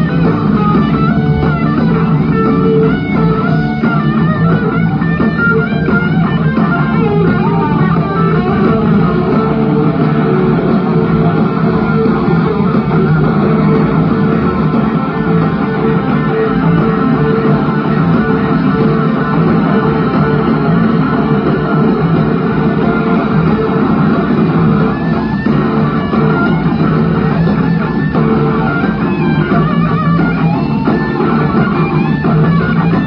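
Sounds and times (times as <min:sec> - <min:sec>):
electric guitar lead bending: 0:00.0 - 0:33.0
rock band playing loudly: 0:00.0 - 0:33.0.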